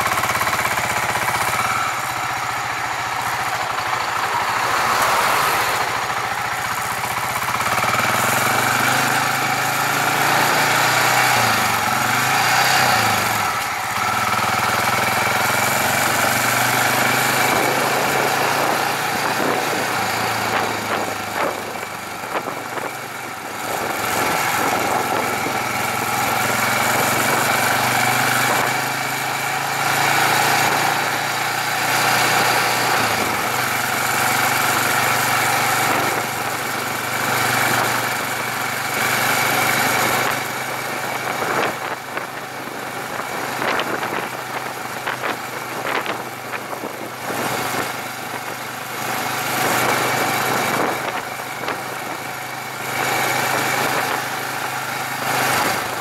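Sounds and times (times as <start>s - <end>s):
motorcycle engine revving: 0.0s - 56.0s
wind noise on microphone: 10.2s - 28.9s, 29.8s - 56.0s.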